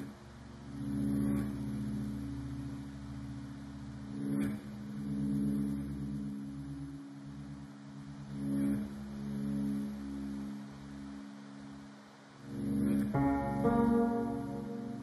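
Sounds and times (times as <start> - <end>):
droning instrumental music: 0.0 - 15.0.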